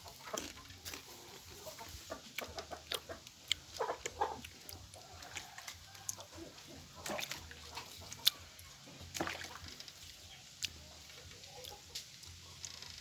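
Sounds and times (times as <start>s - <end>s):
farm animal calls: 0.0s - 8.9s, 10.0s - 12.7s.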